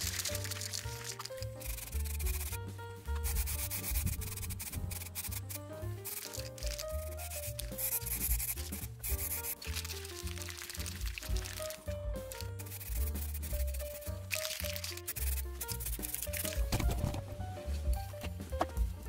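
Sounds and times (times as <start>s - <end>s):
spray paint can hissing: 0.0s - 2.6s, 3.2s - 16.8s
background music: 0.0s - 19.0s.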